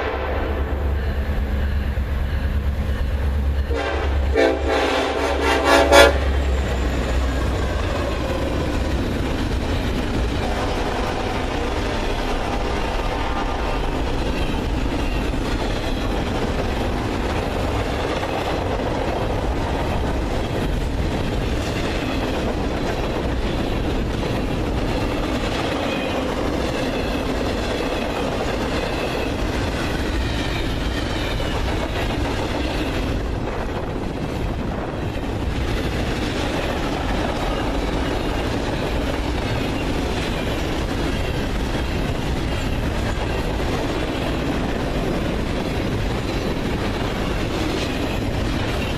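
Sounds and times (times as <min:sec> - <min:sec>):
freight train wheels clattering: 0:00.0 - 0:48.9.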